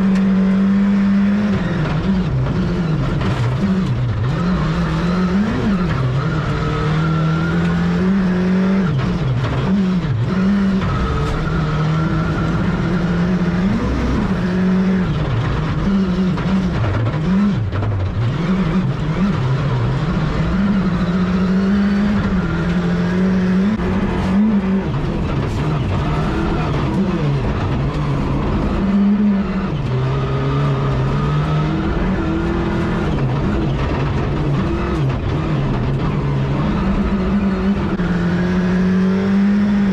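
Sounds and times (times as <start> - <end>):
rally car engine revving: 0.0 - 39.9
tyre and road noise: 0.0 - 39.9.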